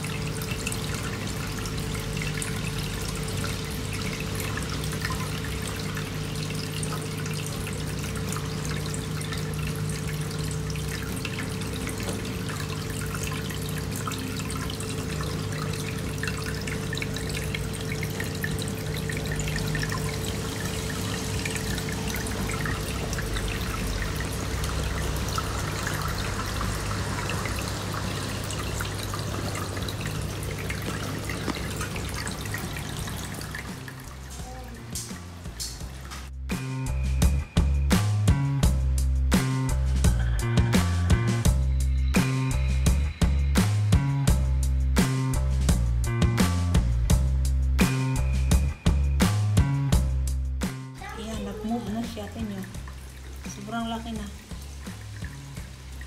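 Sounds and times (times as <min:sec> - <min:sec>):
filter outflow trickling into water: 0:00.0 - 0:45.8, 0:46.7 - 0:56.0.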